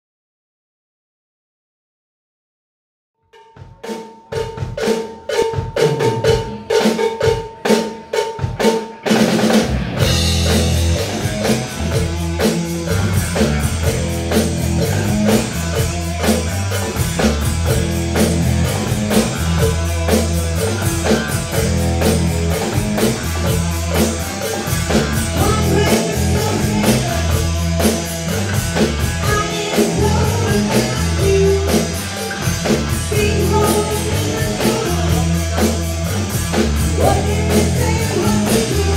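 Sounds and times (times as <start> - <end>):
rock band playing: 3.4 - 38.9.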